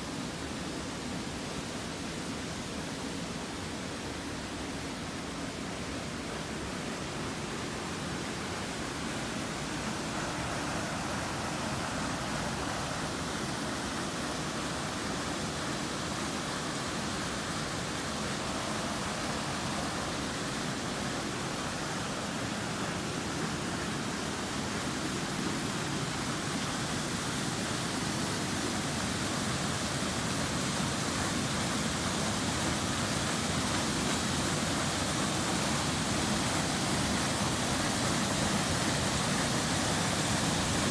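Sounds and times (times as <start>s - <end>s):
waterfall roaring: 6.8s - 40.9s.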